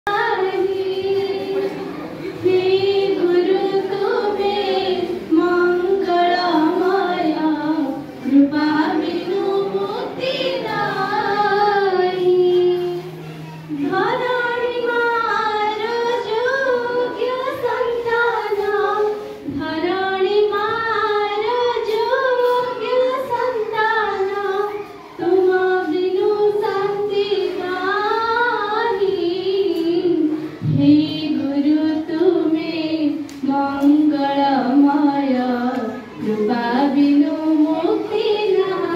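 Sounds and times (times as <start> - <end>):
children singing together: 0.1 - 38.9.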